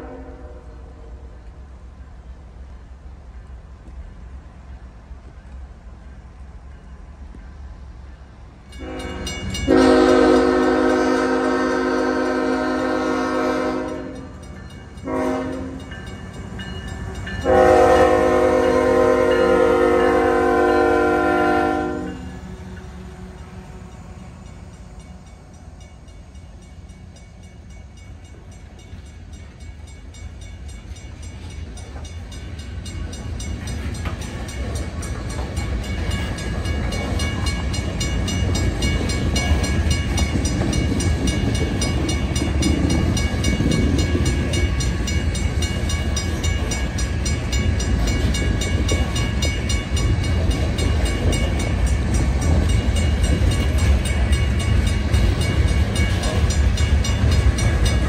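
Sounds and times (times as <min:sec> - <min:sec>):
train cars rumbling on rails: 0:00.0 - 0:58.0.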